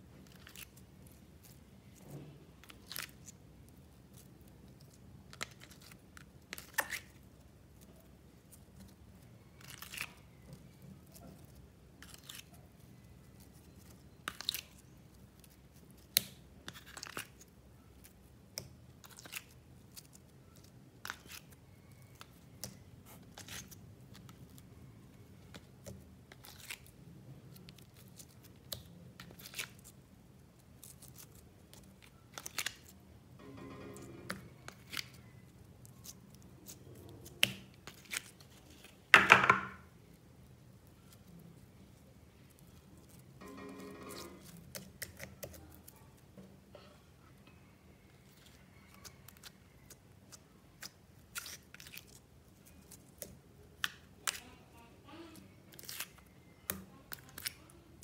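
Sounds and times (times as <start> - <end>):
slime squishing: 0.1 - 33.0, 34.6 - 39.1, 44.4 - 46.4, 48.1 - 54.6, 55.3 - 58.0.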